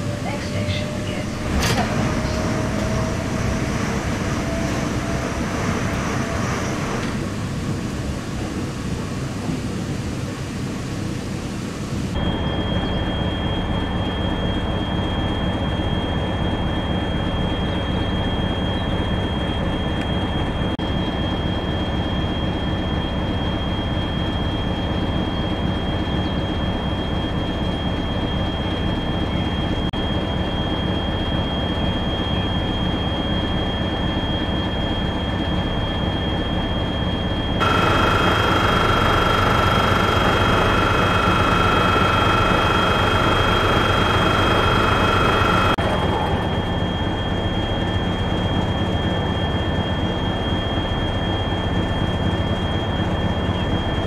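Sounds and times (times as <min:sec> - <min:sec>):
constant high whine: 0:00.0 - 0:54.0
locomotive engine hum: 0:00.0 - 0:54.0
lower whine: 0:00.0 - 0:54.0.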